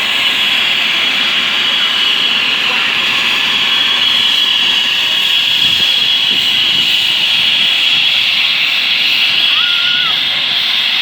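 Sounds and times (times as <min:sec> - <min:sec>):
helicopter turbine and rotors: 0:00.0 - 0:11.0.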